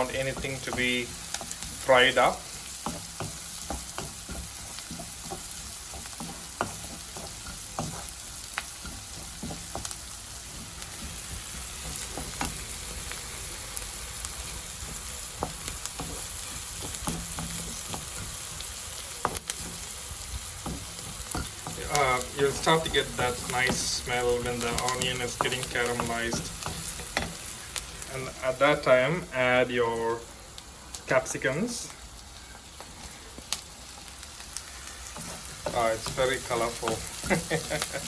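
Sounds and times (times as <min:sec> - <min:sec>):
spatula scraping a pan: 0:00.0 - 0:13.4, 0:14.3 - 0:27.8, 0:34.0 - 0:38.0
food sizzling in hot oil: 0:00.0 - 0:38.0.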